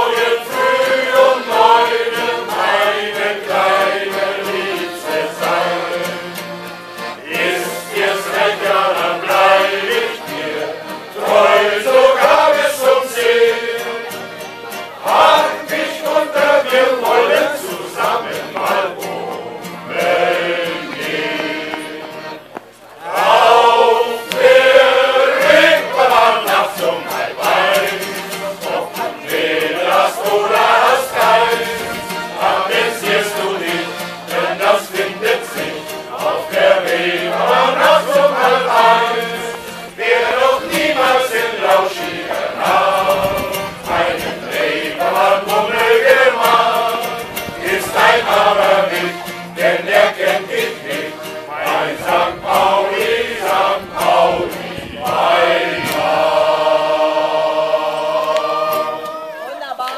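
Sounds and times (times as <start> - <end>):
men's choir singing in unison: 0.0 - 14.4, 15.0 - 22.4, 23.0 - 59.2
accordion: 0.0 - 59.9
acoustic guitar: 0.0 - 59.9.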